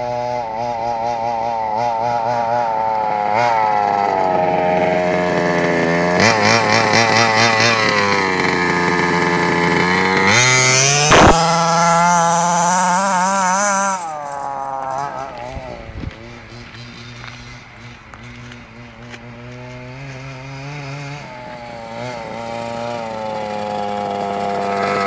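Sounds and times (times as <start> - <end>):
small two-stroke engine revving: 0.0 - 25.0.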